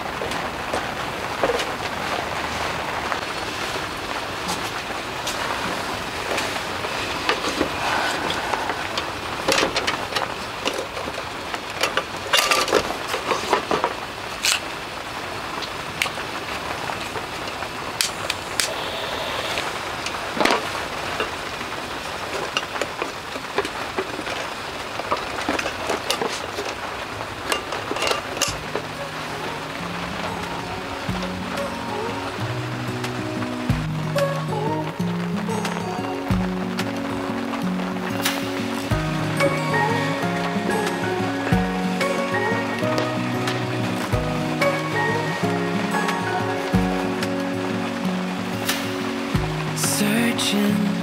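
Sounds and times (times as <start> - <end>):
rain on a tent roof: 0.0 - 51.0.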